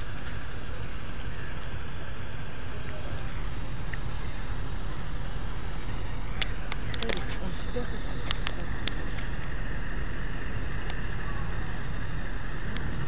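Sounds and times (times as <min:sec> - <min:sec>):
ferry engine rumbling: 0:00.0 - 0:13.0.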